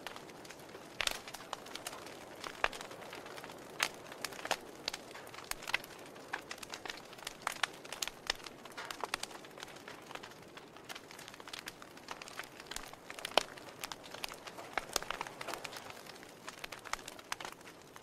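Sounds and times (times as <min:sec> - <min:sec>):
fireplace logs crackling and popping: 0:00.0 - 0:18.0
soft fire hiss: 0:00.0 - 0:18.0.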